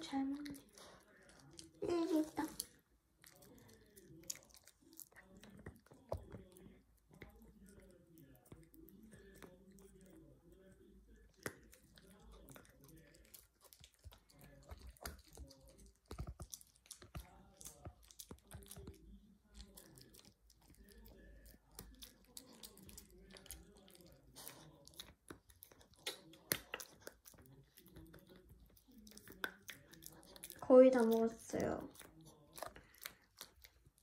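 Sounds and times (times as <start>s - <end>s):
dog gnawing a chew: 0.1s - 34.0s
teeth crunching and clicking: 0.1s - 34.0s.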